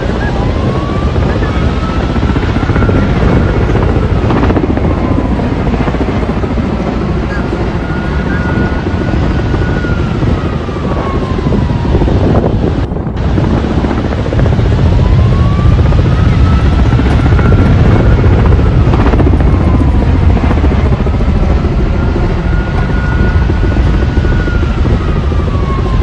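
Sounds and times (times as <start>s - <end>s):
helicopter rotor chopping: 0.0s - 26.0s.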